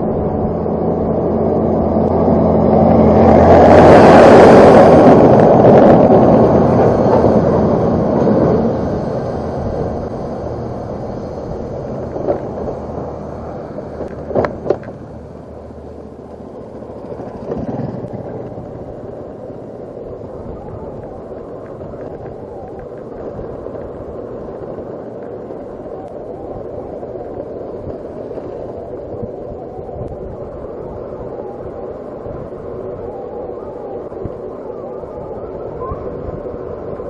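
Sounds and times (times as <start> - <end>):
motor vehicle passing: 0.0 - 34.6
low rumble: 0.0 - 37.0
wind on microphone: 0.0 - 37.0.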